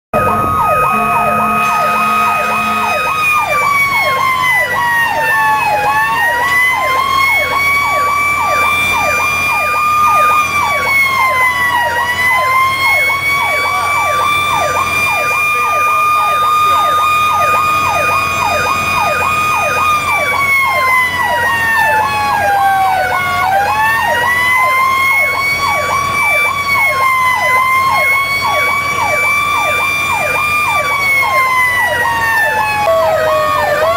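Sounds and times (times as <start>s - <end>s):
fast yelping siren: 0.1s - 33.9s
wailing siren: 0.1s - 33.9s.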